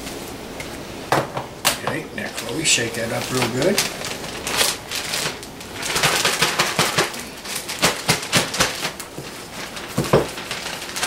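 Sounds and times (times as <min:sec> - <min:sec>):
plastic bag rustling: 0:01.8 - 0:11.0.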